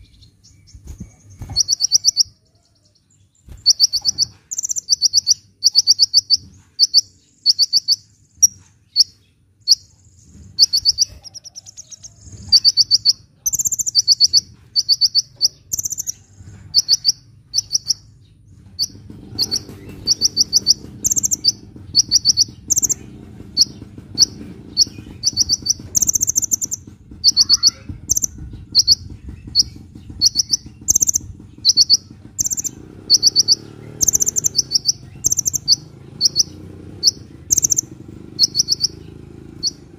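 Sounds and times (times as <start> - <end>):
bird trilling: 0.0 - 39.9.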